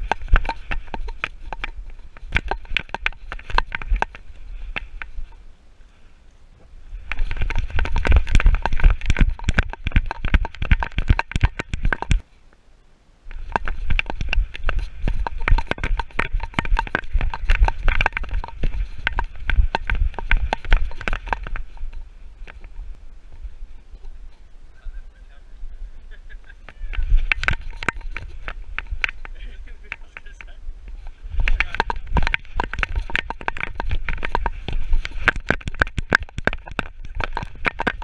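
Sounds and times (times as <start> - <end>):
camera knocking and rattling: 0.0 - 5.4, 7.0 - 12.2, 13.3 - 22.8, 26.9 - 38.0
wind buffeting microphone: 0.0 - 5.4, 6.6 - 12.2, 13.3 - 38.0.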